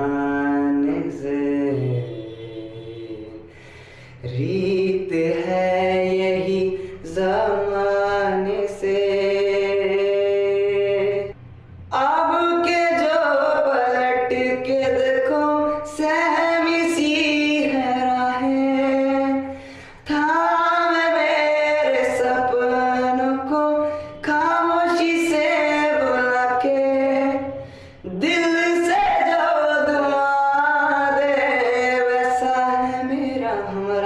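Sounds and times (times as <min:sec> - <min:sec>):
man singing unaccompanied: 0:00.0 - 0:03.6, 0:04.2 - 0:34.0.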